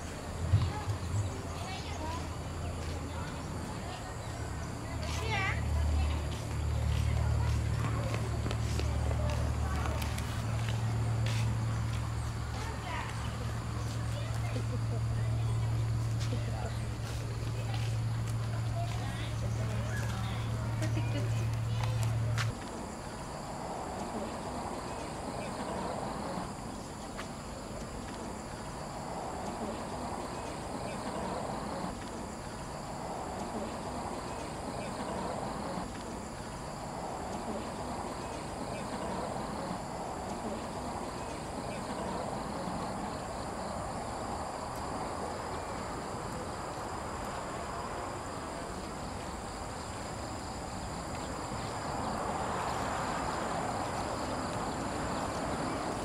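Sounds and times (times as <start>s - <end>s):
background noise: 0.0s - 56.0s.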